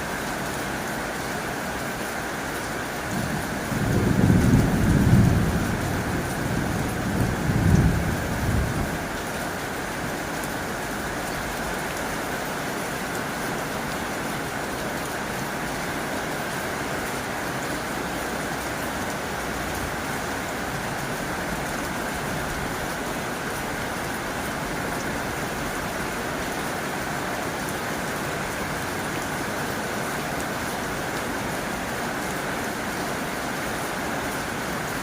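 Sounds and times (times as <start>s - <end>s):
heavy rain on a tin roof: 0.0s - 35.0s.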